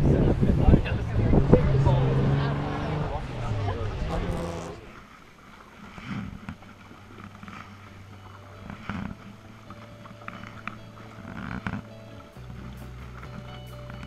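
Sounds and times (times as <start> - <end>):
kayak paddle splashing water: 0.0 - 14.0.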